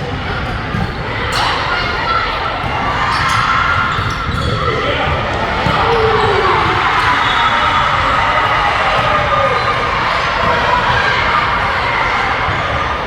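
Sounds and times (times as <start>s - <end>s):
crowd chatter: 0.0s - 13.0s
people shouting: 1.0s - 13.0s.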